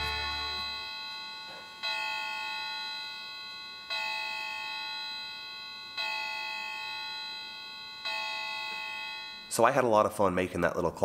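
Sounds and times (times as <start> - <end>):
clock chime dong: 0.0 - 9.9.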